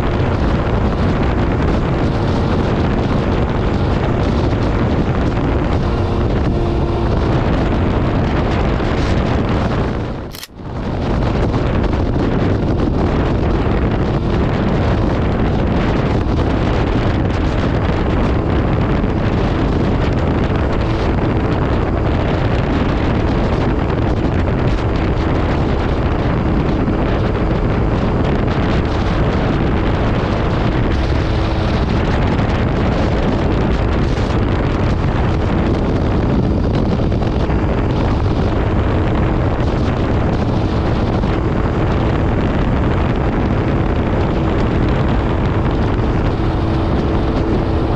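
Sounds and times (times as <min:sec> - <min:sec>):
motorcycle engine running: 0:00.0 - 0:10.7, 0:12.0 - 0:47.9
wind buffeting microphone: 0:00.0 - 0:47.9.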